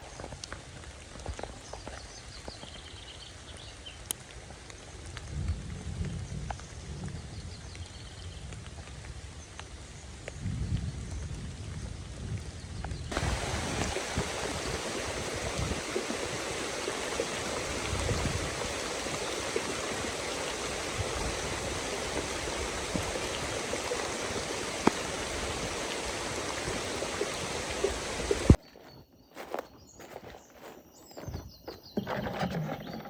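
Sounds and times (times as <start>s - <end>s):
rain falling through foliage: 0.0s - 28.6s.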